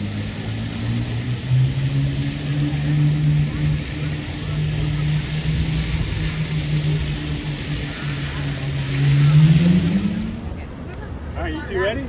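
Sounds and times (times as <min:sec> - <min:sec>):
fountain water splashing: 0:00.0 - 0:11.3
vehicle engine hum: 0:00.0 - 0:12.0.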